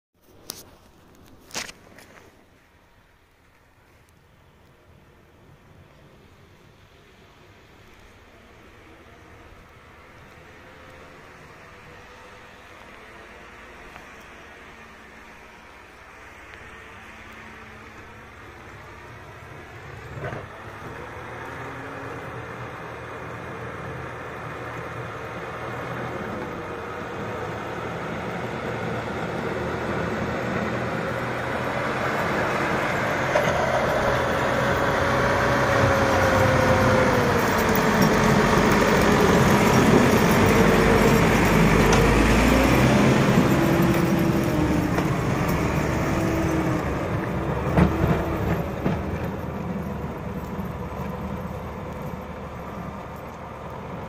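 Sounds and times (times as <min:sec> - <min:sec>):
tractor diesel engine working: 0:06.2 - 0:54.0.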